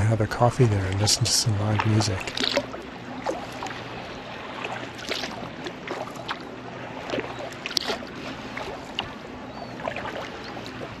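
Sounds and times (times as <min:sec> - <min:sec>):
paddle drips and splashes: 0:00.6 - 0:11.0.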